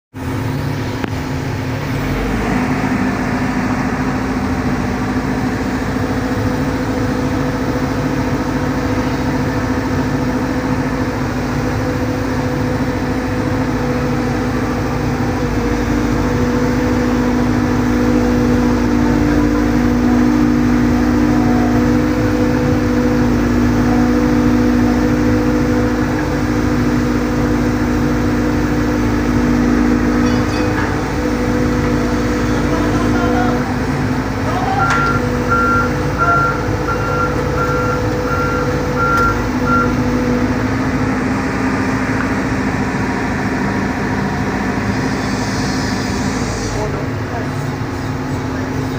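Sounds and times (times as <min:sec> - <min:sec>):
excavator diesel drone: 0:00.1 - 0:48.9
hydraulic whine: 0:00.2 - 0:48.9.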